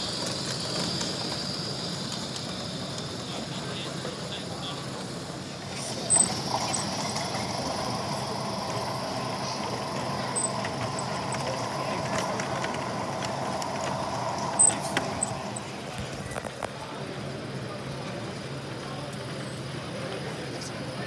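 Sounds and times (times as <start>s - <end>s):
chatter of voices: 0.0s - 21.0s
model locomotive motor whine: 0.0s - 21.0s
wheels running on track: 0.0s - 21.0s.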